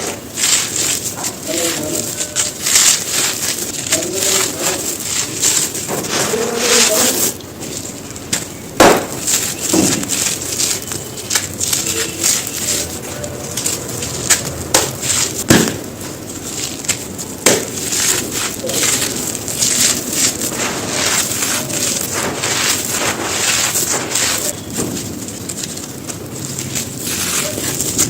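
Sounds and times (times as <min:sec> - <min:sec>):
stone pieces being crushed: 0:00.0 - 0:28.0.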